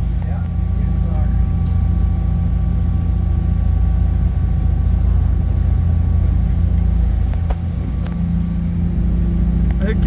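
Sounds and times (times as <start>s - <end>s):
boat engine rumbling: 0.0s - 10.0s
faint steady whine: 0.0s - 10.0s.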